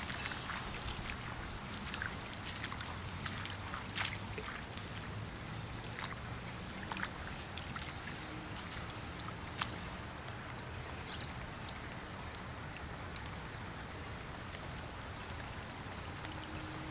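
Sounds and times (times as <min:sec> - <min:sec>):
water drips and splashes: 0:00.0 - 0:16.9
water washing: 0:00.0 - 0:16.9.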